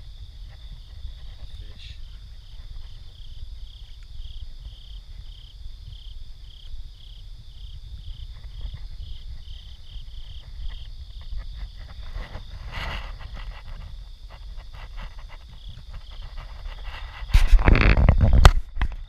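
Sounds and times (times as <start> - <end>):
continuous high insect trill: 0.0 - 19.0
cricket-like chirp: 0.0 - 19.0.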